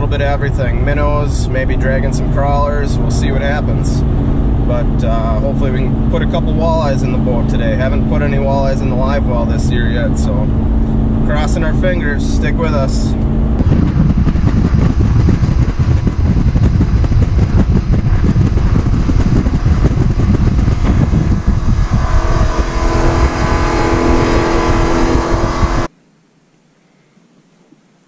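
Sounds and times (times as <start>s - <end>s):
wind rumble on microphone: 0.0s - 25.9s
boat motor drone: 0.1s - 25.9s.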